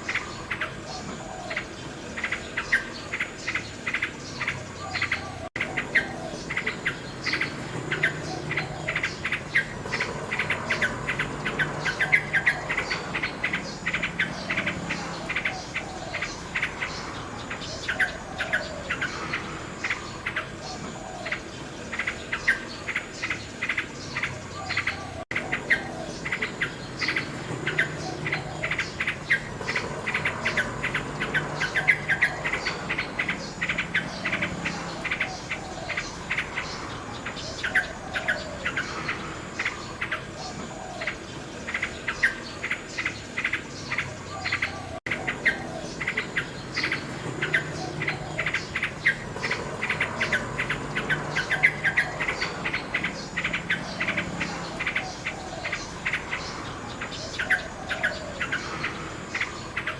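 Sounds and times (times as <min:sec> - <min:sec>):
insects chirping: 0:00.0 - 0:59.9
nightingale singing: 0:00.0 - 0:59.9.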